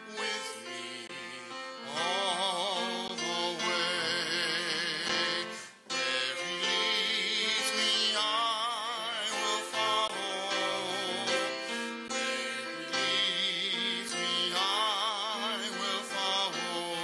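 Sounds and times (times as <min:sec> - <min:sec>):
person singing with vibrato: 0:00.0 - 0:17.0.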